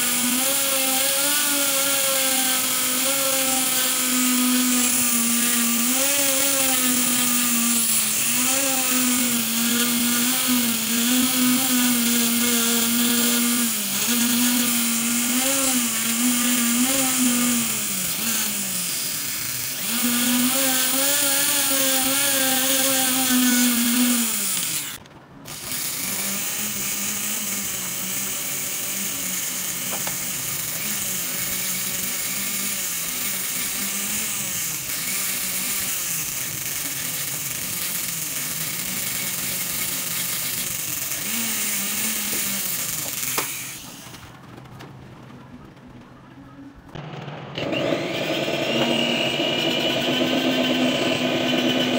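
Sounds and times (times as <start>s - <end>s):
rotary tool whining: 0.0s - 45.2s, 46.9s - 51.9s.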